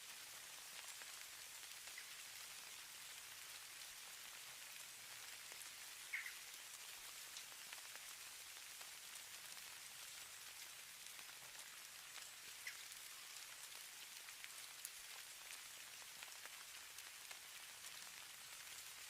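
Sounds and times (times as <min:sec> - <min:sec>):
falling snow pattering: 0:00.0 - 0:19.0.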